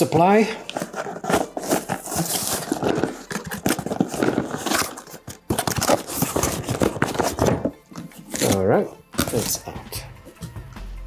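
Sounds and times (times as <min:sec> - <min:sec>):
cardboard box scraping and rubbing: 0:00.6 - 0:09.6.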